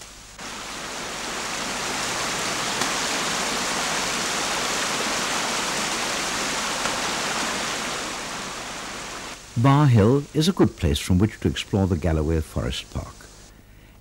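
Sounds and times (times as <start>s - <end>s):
waterfall rushing: 0.1s - 13.4s.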